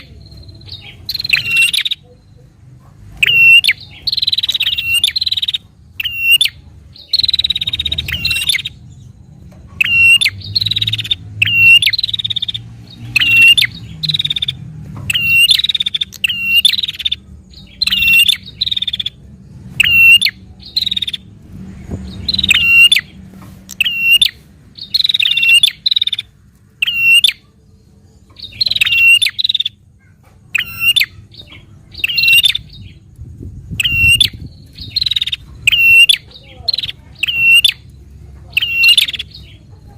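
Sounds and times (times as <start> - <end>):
bird calling high-pitched notes: 0.0 - 2.5, 3.2 - 21.3, 22.2 - 27.5, 28.3 - 29.9, 30.5 - 33.0, 33.7 - 39.6.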